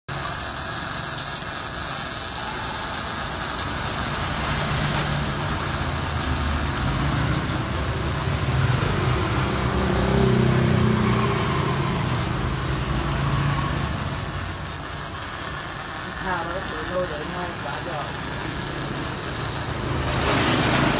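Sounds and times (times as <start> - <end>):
welder arc crackling and buzzing: 0.0 - 20.9.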